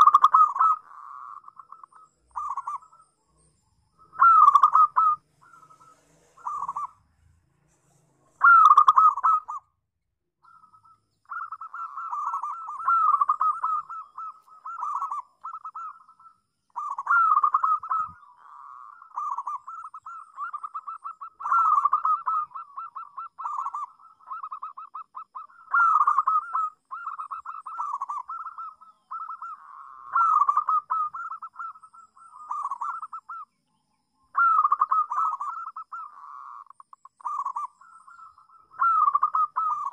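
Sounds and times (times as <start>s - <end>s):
dove cooing: 0.0s - 3.0s, 4.0s - 7.1s, 8.4s - 9.7s, 10.4s - 33.5s, 34.3s - 39.9s.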